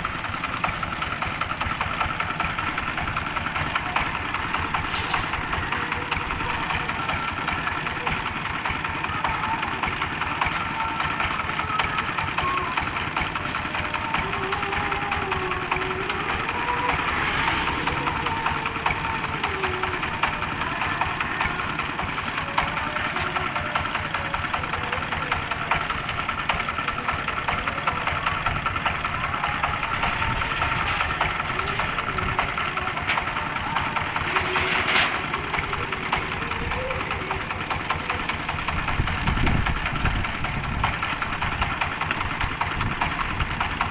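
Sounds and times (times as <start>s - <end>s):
diesel engine running steadily: 0.0s - 43.9s
faint voices: 0.0s - 43.9s.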